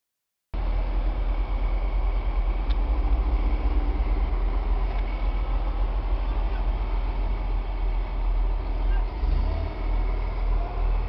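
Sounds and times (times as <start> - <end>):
vehicle engine rumbling: 0.6 - 11.0.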